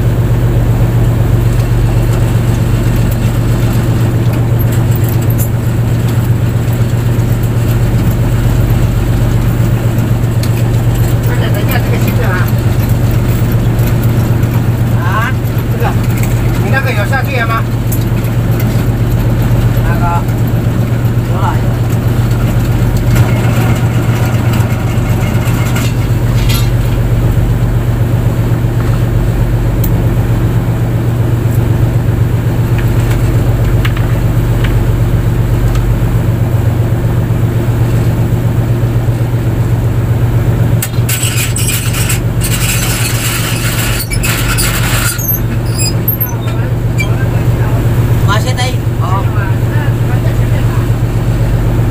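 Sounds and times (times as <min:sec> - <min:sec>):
boat engine humming: 0:00.0 - 0:51.9.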